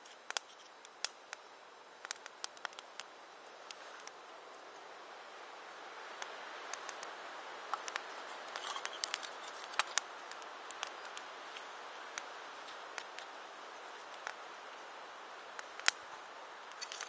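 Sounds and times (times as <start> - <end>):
campfire crackling and popping: 0.0 - 4.9, 6.0 - 17.0.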